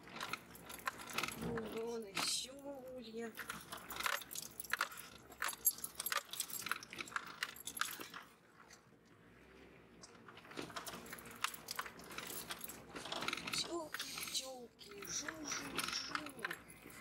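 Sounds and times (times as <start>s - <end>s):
rattling and clinking in vehicle cabin: 0.0s - 8.3s, 10.6s - 17.0s.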